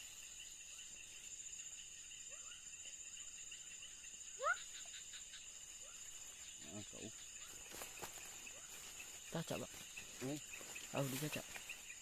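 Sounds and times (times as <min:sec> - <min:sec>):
crickets trilling: 0:00.0 - 0:12.0
pulsing insect chirr: 0:00.0 - 0:12.0.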